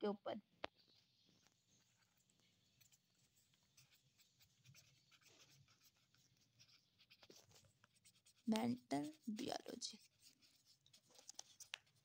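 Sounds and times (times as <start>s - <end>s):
pen scratching on paper: 0.8s - 12.0s.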